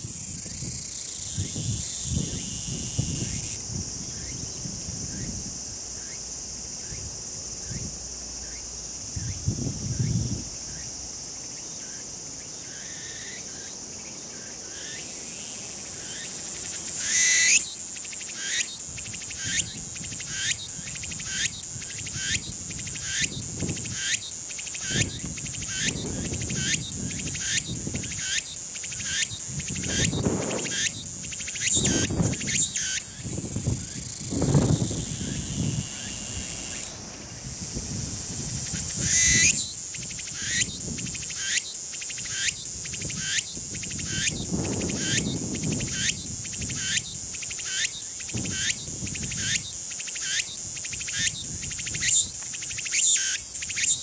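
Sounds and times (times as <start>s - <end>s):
cicada buzzing song: 0.0s - 54.0s.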